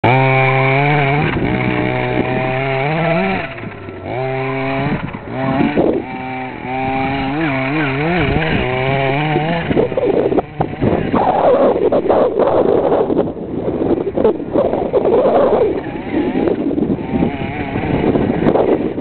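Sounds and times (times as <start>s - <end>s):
small two-stroke engine buzzing: 0.0s - 19.0s.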